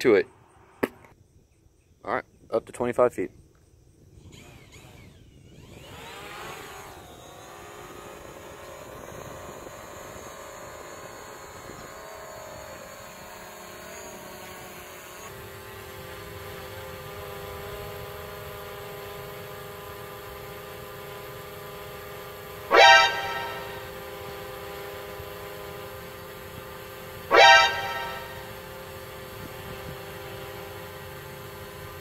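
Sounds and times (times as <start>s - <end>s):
quadcopter propeller whine: 4.2s - 32.0s.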